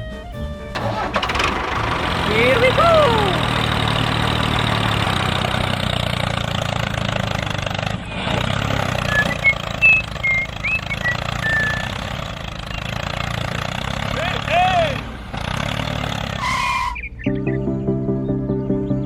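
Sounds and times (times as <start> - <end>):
tractor engine running: 0.0 - 17.8.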